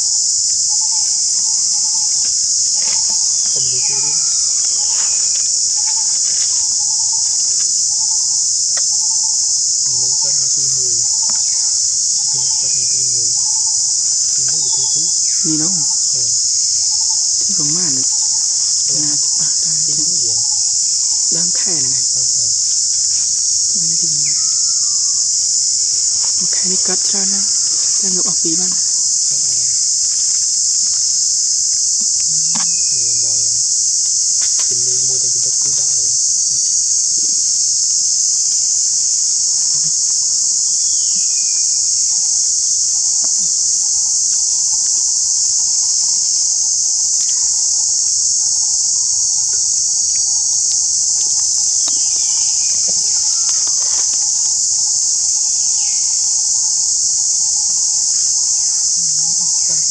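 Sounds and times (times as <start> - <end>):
insect chorus droning: 0.0 - 59.9.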